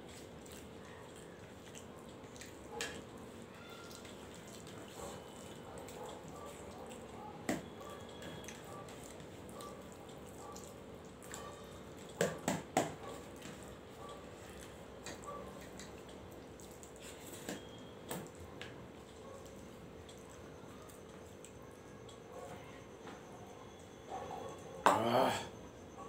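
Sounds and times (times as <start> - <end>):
wet squishy eating sounds: 0.0 - 22.9.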